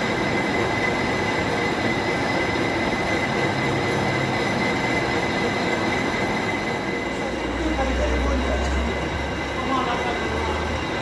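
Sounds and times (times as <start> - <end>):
workshop machine running: 0.0 - 11.0.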